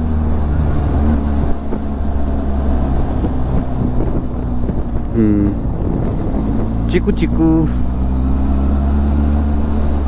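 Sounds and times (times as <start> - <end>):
road noise: 0.0 - 10.0
vehicle engine humming: 0.0 - 10.0.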